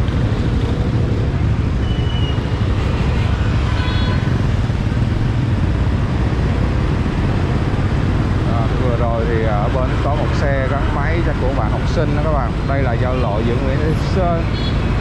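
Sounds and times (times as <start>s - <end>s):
motorbike engines and road noise: 0.0s - 15.0s.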